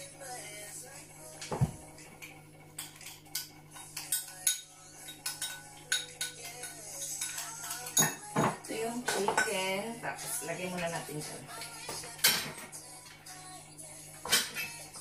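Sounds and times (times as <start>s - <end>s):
utensils and crockery clinking: 1.2s - 15.0s.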